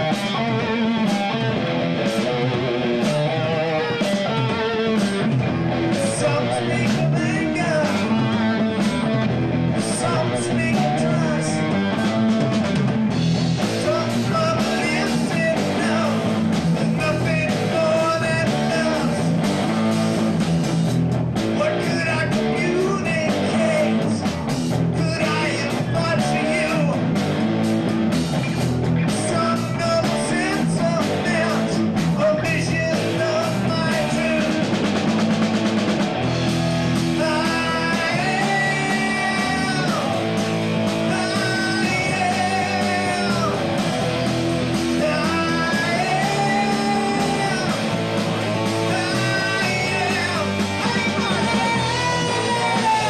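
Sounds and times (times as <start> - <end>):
bass guitar: 0.0 - 53.0
drum kit: 0.0 - 53.0
electric guitar: 0.0 - 53.0
person singing: 2.5 - 12.7, 13.7 - 19.5, 21.6 - 27.1, 29.1 - 34.9, 37.1 - 53.0.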